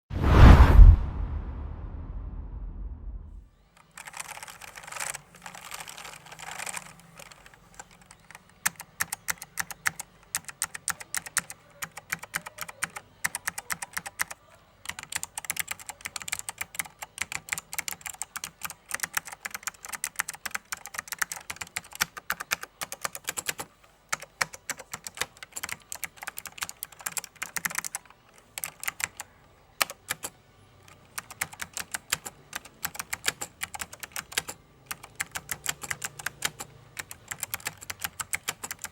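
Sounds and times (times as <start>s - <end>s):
mechanical keyboard typing: 3.8s - 38.9s.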